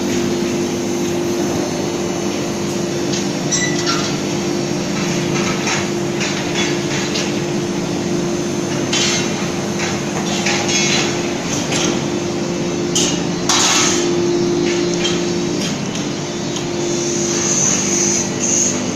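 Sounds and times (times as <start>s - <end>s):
machinery humming: 0.0s - 18.9s.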